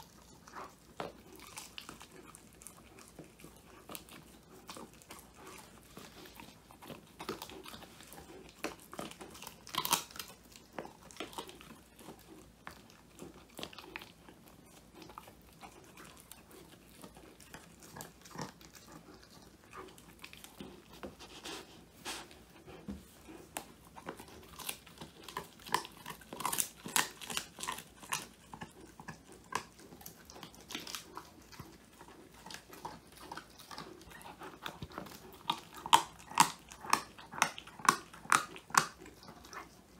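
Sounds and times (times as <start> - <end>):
puppy crunching a treat: 0.0 - 39.9.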